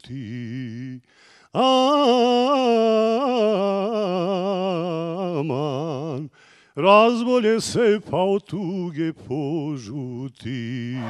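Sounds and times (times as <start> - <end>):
man singing unaccompanied: 1.6 - 11.0.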